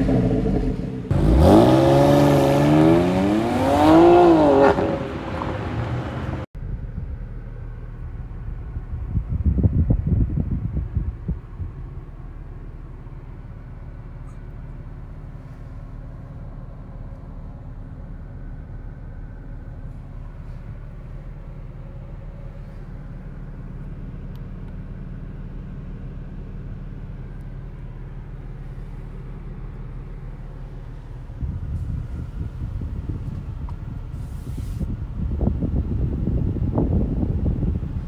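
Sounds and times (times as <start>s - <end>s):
car engine low rumble: 0.0s - 38.0s.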